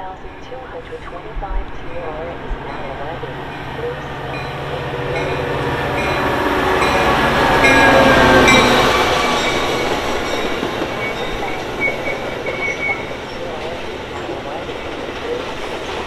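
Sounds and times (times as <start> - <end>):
diesel locomotive passing: 0.0 - 16.0
rumble of train cars rolling: 0.0 - 16.0.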